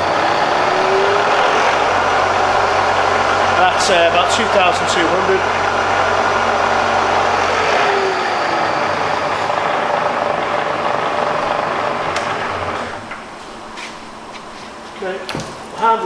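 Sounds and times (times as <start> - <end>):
milling spindle whirring: 0.0 - 15.7.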